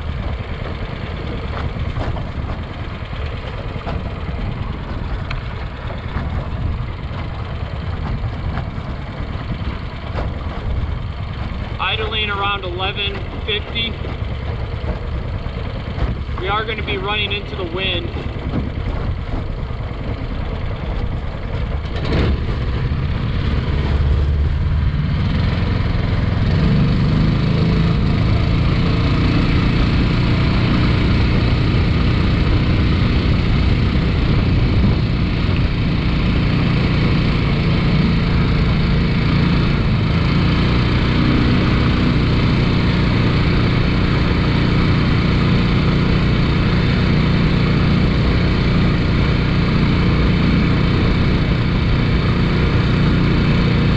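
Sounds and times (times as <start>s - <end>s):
boat motor engine revving: 0.0s - 53.9s.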